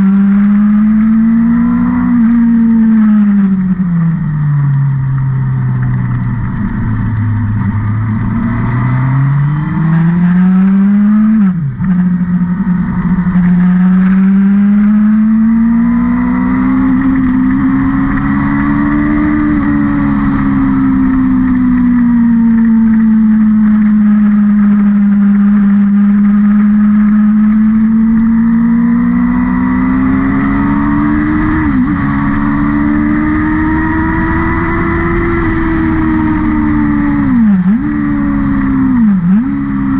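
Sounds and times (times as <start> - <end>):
car engine revving: 0.0 - 39.9
gear change: 0.0 - 39.9.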